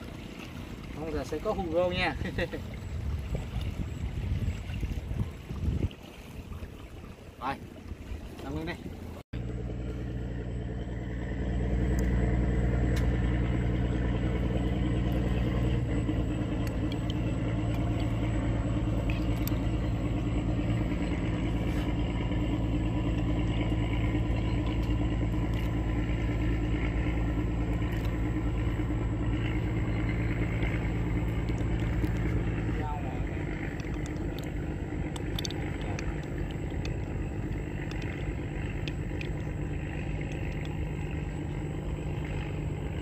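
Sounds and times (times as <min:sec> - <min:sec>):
outboard motor humming: 0:00.0 - 0:43.0.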